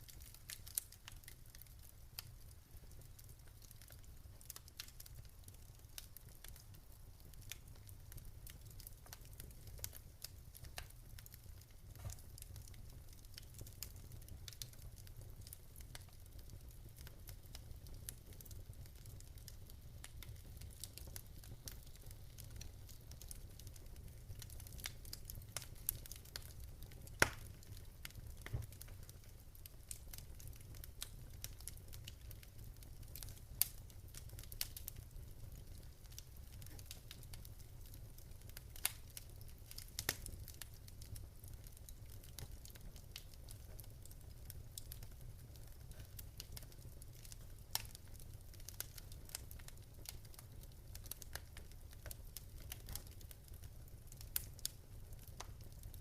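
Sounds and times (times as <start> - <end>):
fire crackles and pops: 0.0 - 56.0
fire low rumble: 0.0 - 56.0.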